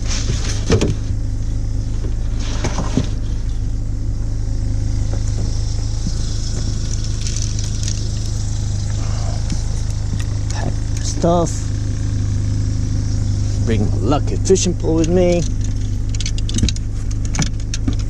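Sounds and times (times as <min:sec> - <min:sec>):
car rumbling on the road: 0:00.0 - 0:18.0.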